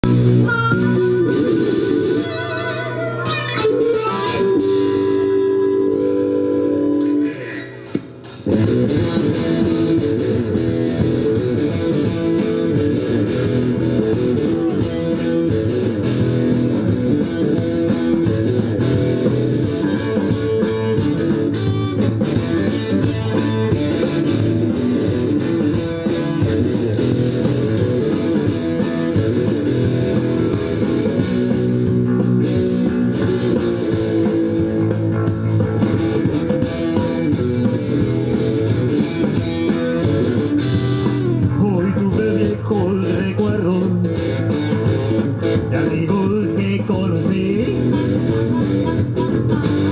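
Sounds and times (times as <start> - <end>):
blues band playing: 0.0 - 49.9
electric guitar: 0.0 - 49.9.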